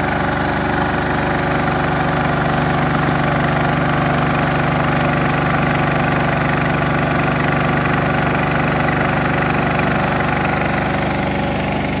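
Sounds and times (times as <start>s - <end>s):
machine engine humming: 0.0s - 12.0s.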